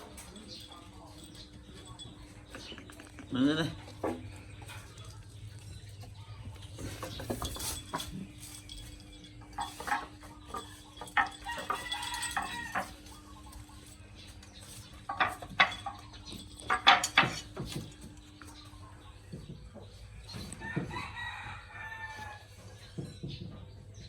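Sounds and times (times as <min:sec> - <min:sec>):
clatter and knocks of dishes: 0:00.0 - 0:21.3, 0:22.7 - 0:24.0.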